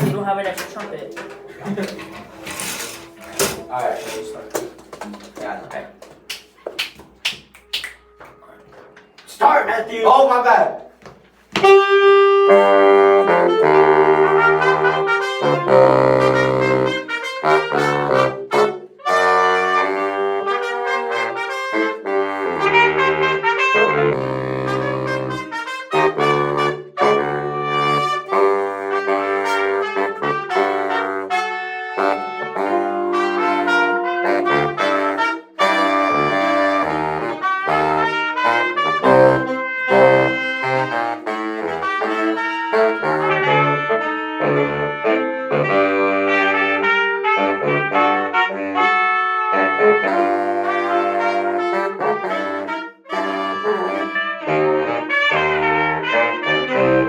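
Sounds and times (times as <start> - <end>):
brass ensemble playing a tune: 0.0 - 6.8, 11.5 - 57.0.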